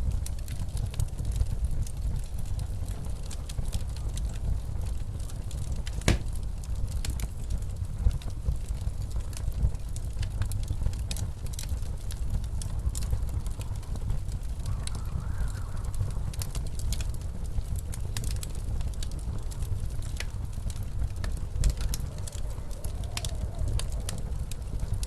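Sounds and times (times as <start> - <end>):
low rumble of blizzard wind: 0.0 - 25.0
wood fire crackling and popping: 0.0 - 25.0.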